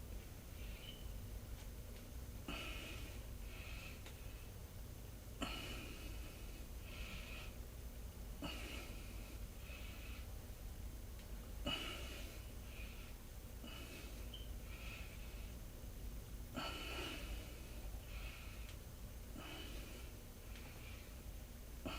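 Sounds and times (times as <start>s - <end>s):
steady low hum: 0.0s - 21.9s
person breathing rhythmically: 0.3s - 21.9s.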